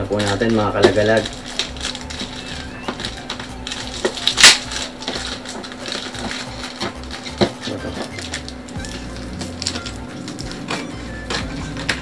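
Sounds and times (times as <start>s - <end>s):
plastic crinkling: 0.0s - 12.0s
scissors snipping through tape: 0.2s - 12.0s.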